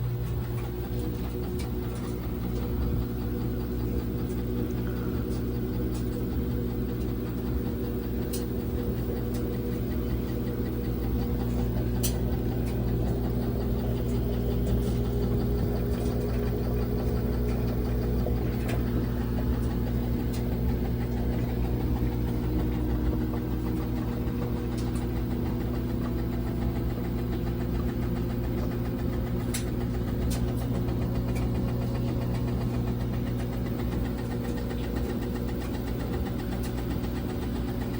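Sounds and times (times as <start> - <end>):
washing machine spin motor hum: 0.0 - 37.9.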